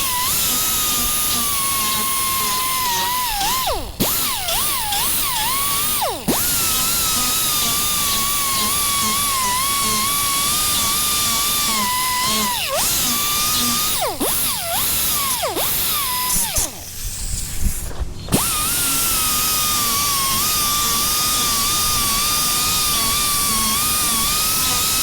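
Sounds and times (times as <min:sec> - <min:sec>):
rotary power tool whining: 0:00.0 - 0:25.0.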